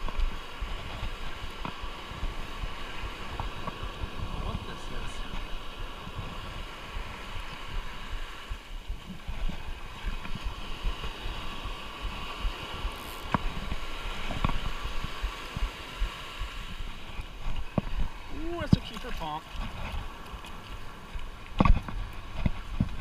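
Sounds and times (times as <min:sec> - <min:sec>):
surf: 0:00.0 - 0:23.0
wind buffeting microphone: 0:00.0 - 0:23.0.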